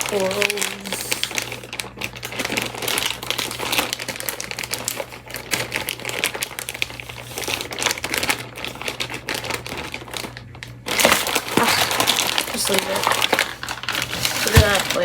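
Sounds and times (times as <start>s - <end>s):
bag crinkling: 0.0s - 15.0s.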